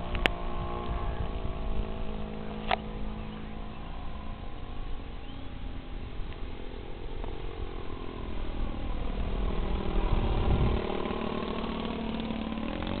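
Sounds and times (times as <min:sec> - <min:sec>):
model airplane engine passing overhead: 0:00.0 - 0:13.0.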